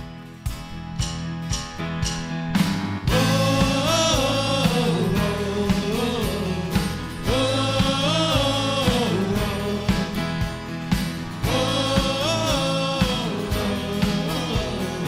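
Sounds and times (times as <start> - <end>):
band playing christian song: 0.0 - 15.0.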